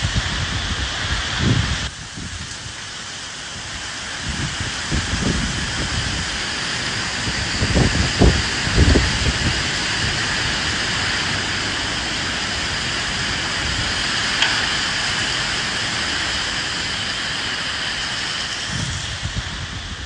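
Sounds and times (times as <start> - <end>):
rain hissing: 0.0 - 20.0
wind gusts rumbling: 0.0 - 20.0.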